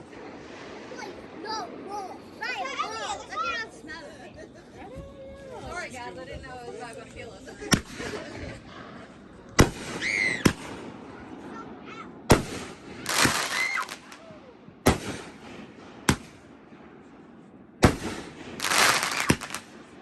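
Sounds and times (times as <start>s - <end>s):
firework bangs: 0.0s - 4.0s, 7.6s - 20.0s
firework crackling: 0.0s - 4.6s, 5.7s - 20.0s.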